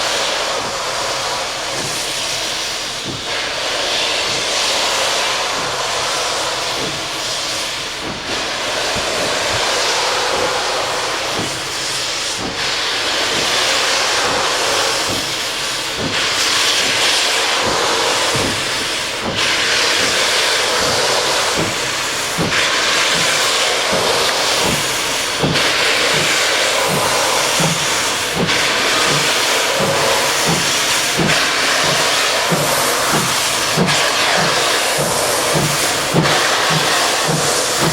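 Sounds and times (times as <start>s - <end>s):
steam locomotive hissing: 0.0s - 37.9s.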